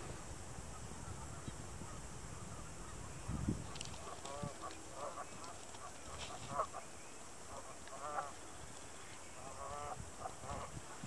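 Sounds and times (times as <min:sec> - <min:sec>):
distant geese honking: 0:00.0 - 0:11.0.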